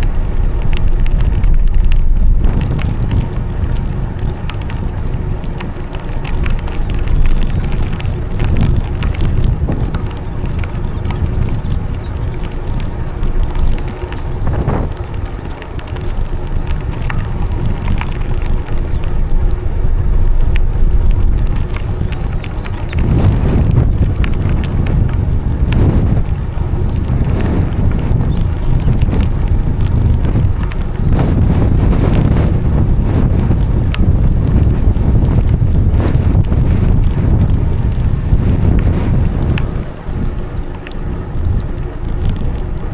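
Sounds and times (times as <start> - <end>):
low rumble: 0.0 - 42.9
small knocks from bicycle: 0.0 - 42.9
wind buffeting microphone: 0.0 - 42.9.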